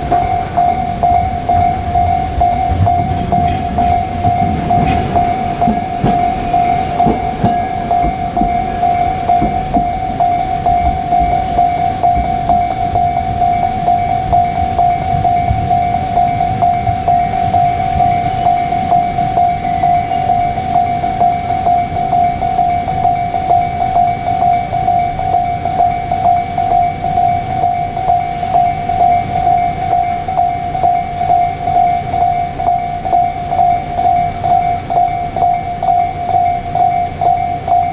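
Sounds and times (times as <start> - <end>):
level crossing alarm ringing: 0.0 - 37.9
train rumbling: 0.0 - 37.9.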